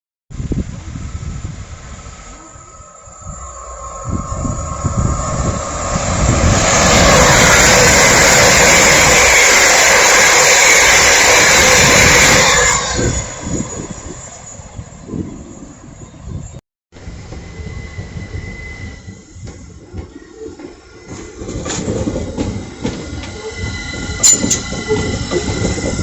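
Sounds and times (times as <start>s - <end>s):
train passing at speed: 0.4s - 26.0s.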